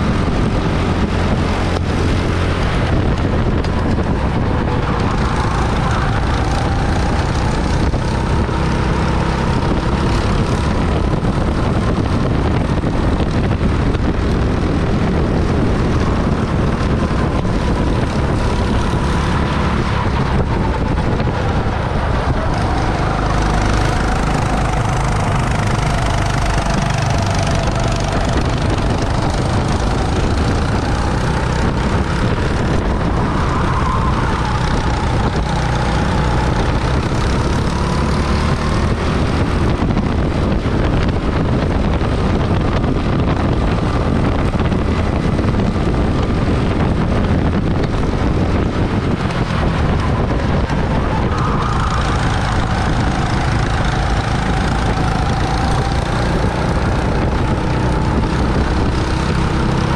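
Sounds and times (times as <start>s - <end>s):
go-kart engine rumble and whine: 0.0s - 59.9s.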